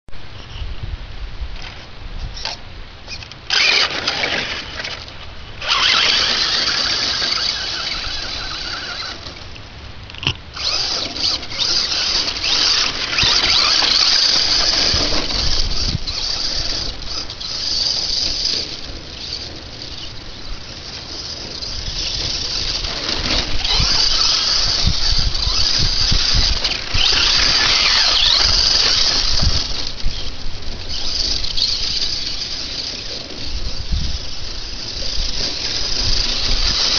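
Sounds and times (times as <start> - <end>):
rc truck motor whine: 2.4 - 36.9.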